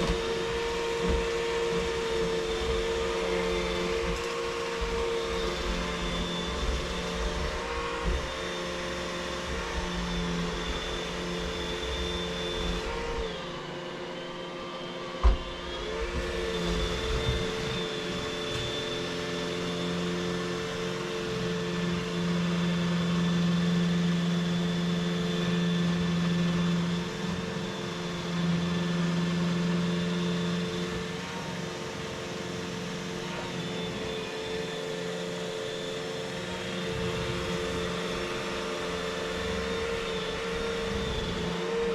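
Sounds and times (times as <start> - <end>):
vacuum cleaner motor whine: 0.0 - 41.9
vacuum rumbling over floor: 0.0 - 41.9.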